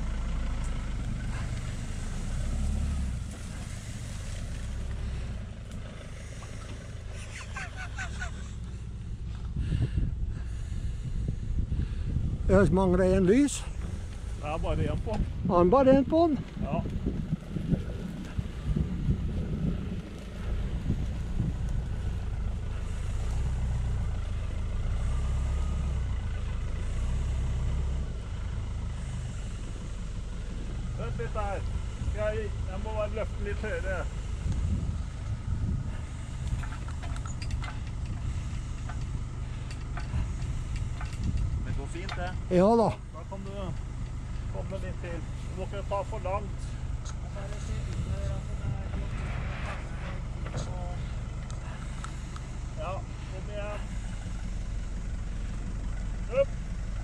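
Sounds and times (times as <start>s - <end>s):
truck engine rumbling: 0.0s - 57.0s.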